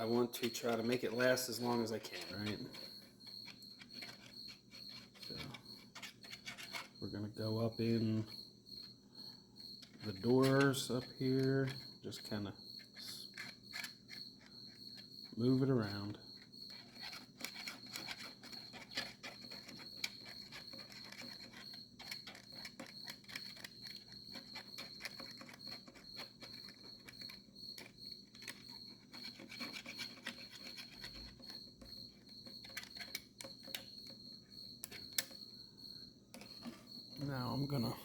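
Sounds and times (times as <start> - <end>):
wrench scraping inside plastic: 0.0 - 8.3, 9.7 - 35.4, 36.3 - 38.0
crickets chirping: 0.0 - 38.0.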